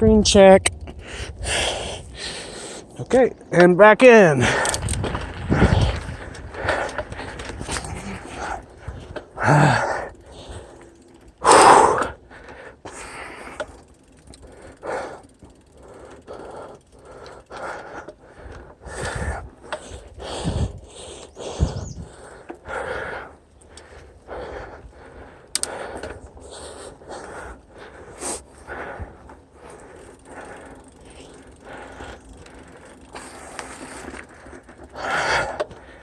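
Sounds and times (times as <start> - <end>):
person breathing hard: 1.0 - 3.0, 4.4 - 36.0.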